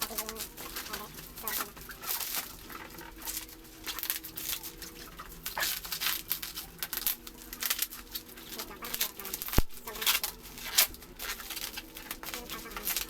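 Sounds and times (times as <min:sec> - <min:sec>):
plastic and cardboard rustling: 0:00.0 - 0:13.0.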